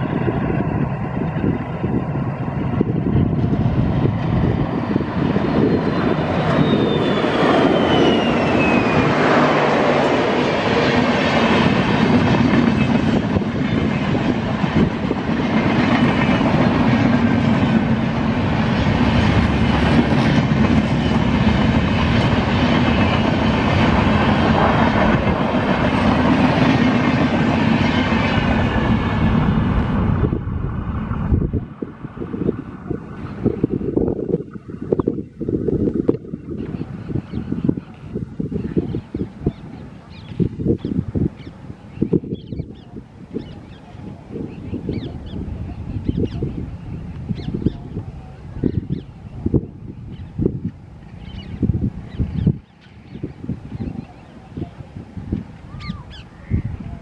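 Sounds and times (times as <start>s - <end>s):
diesel locomotive engine whine: 0.0s - 57.0s.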